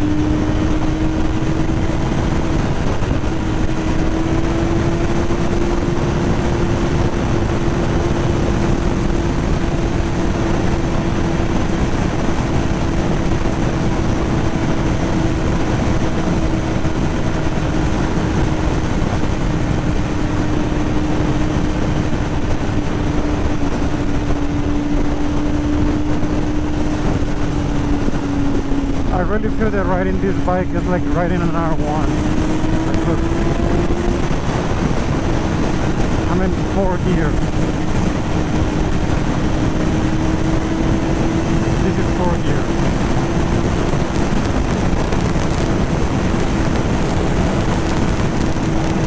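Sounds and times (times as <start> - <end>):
motorcycle engine running: 0.0 - 49.0
rushing wind noise: 0.0 - 49.0.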